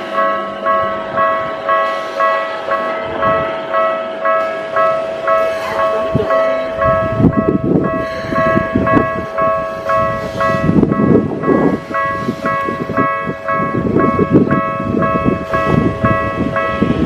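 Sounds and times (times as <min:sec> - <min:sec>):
level-crossing alarm bell ringing: 0:00.0 - 0:17.0
train passing with low rumble: 0:00.0 - 0:17.0.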